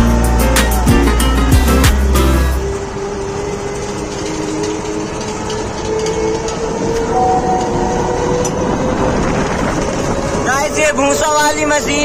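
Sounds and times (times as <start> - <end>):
combine harvester rumbling: 0.0 - 12.0
machine whine: 0.0 - 12.0.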